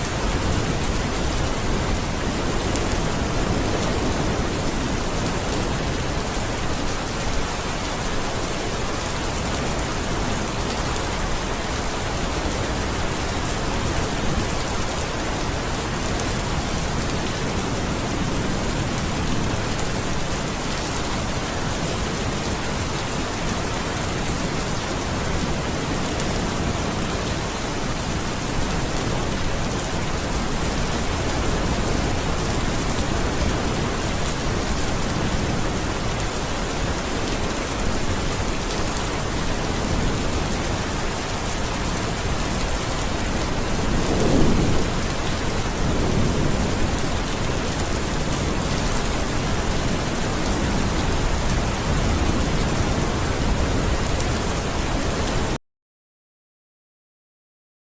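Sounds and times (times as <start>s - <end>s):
steady rain pattering: 0.0s - 55.6s.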